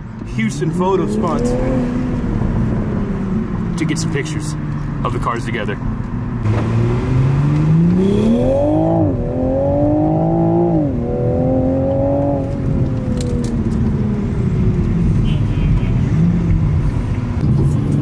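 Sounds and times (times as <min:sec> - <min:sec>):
car engine accelerating: 0:00.1 - 0:18.0.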